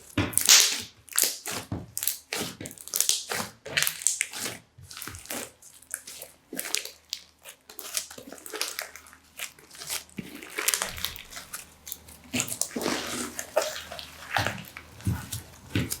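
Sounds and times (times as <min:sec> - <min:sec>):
wet sticky squishes: 0:00.0 - 0:16.0
slime crackling and popping: 0:00.1 - 0:16.0.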